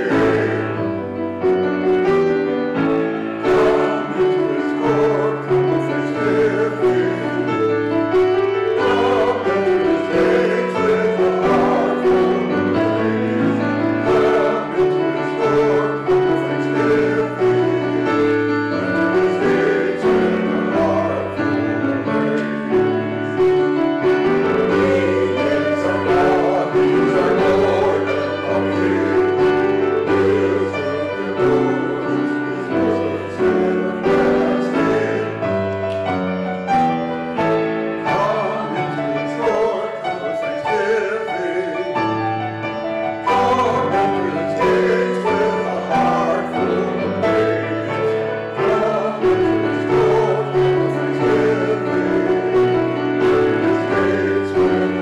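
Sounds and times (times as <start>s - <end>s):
grand piano: 0.0s - 55.0s
mixed choir singing: 0.0s - 55.0s.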